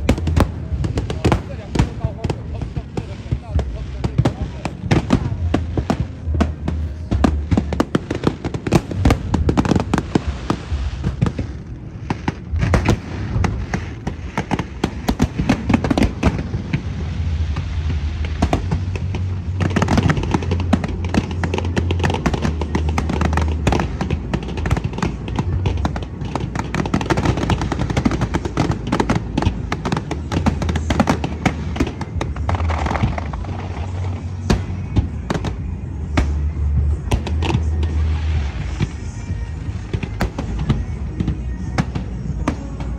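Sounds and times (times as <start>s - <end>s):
fireworks bangs and crackles: 0.0s - 42.9s
show music: 0.0s - 42.9s.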